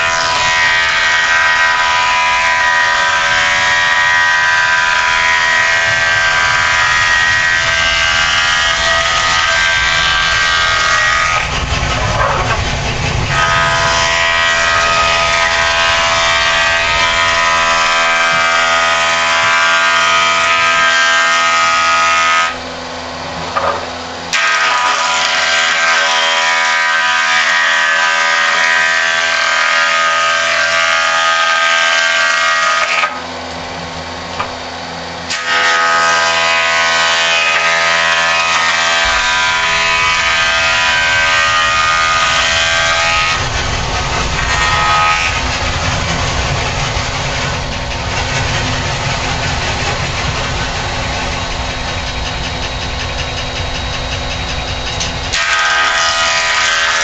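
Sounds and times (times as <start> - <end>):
jointer planing wood: 0.0 - 57.0.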